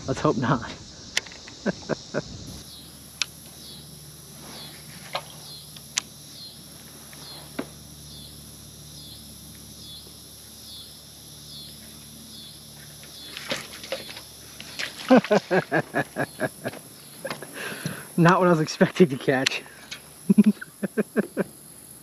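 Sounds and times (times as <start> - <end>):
insects chirping: 0.0 - 22.0
rustle: 0.6 - 10.6, 11.5 - 22.0.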